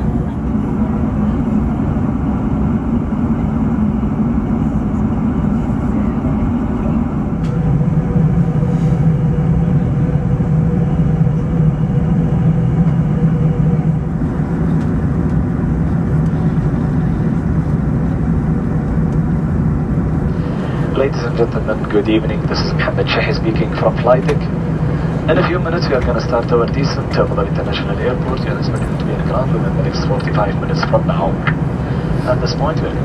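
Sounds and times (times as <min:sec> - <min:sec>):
airplane cabin engine roar: 0:00.0 - 0:33.0.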